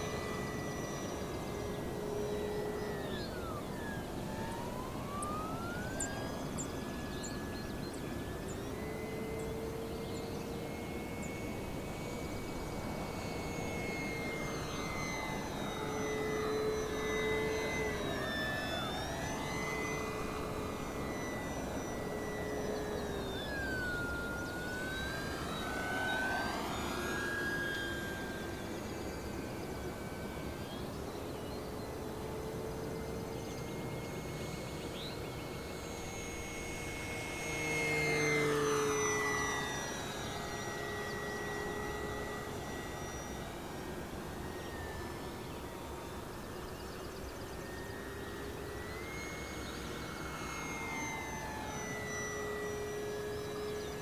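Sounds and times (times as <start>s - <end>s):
rc plane motor whine: 0.0s - 54.0s.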